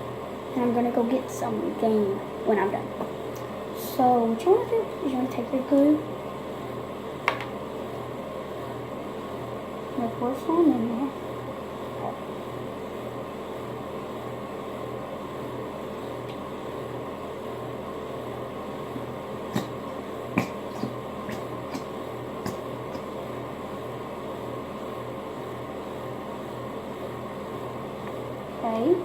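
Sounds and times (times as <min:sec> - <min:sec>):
mechanical room hum: 0:00.0 - 0:29.0.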